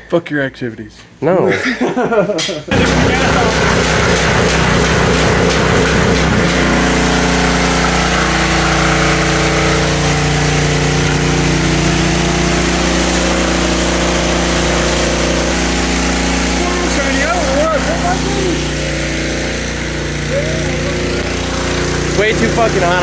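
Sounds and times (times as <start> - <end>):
pressure washer engine running: 2.7 - 23.0
water jet spraying on metal: 2.7 - 23.0.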